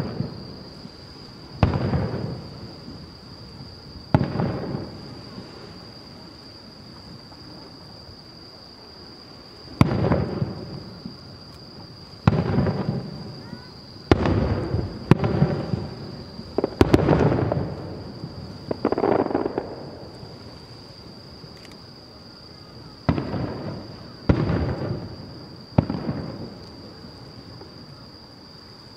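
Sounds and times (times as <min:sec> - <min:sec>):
fireworks booming: 0:00.0 - 0:08.2, 0:09.3 - 0:28.6.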